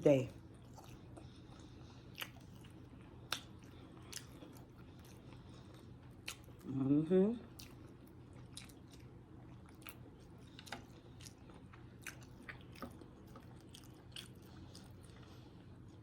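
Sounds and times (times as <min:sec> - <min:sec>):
low steady hum: 0:00.0 - 0:16.0
chewing with wet mouth clicks: 0:00.5 - 0:06.7, 0:07.4 - 0:16.0.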